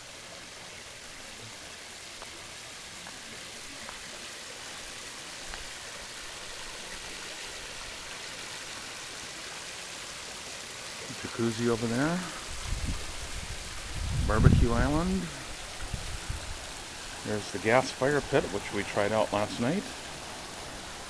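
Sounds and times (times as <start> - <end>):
waterfall splashing into pool: 0.0 - 21.0.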